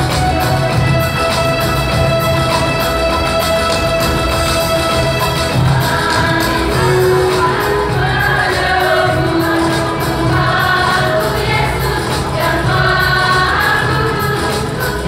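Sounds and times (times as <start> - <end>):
low instrumental accompaniment: 0.0 - 15.0
choir singing: 2.1 - 15.0.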